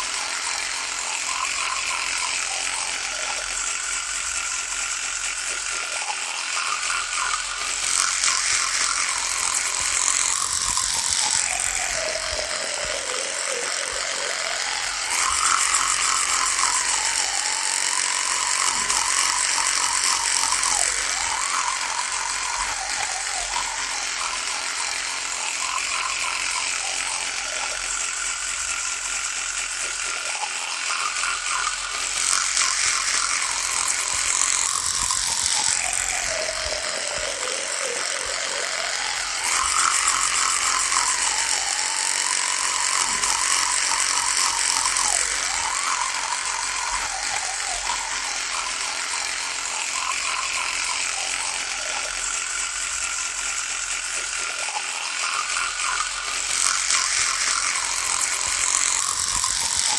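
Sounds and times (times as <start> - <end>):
electric toothbrush buzzing: 0.0 - 59.9.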